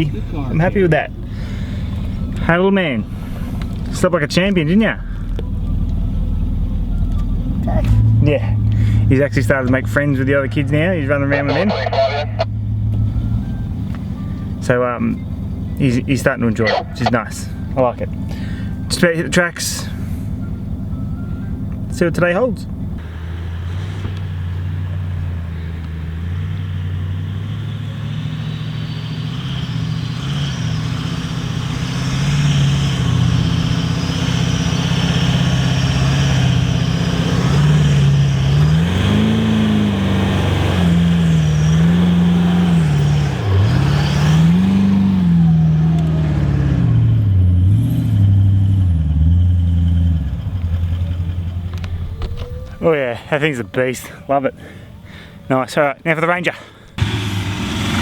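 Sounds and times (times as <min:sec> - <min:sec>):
engine revving up and down: 0:00.0 - 0:20.0, 0:23.0 - 0:53.5, 0:57.0 - 0:58.0.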